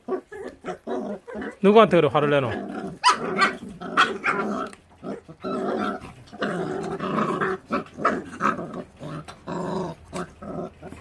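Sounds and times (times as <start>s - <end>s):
puppies growling: 0.0s - 11.0s.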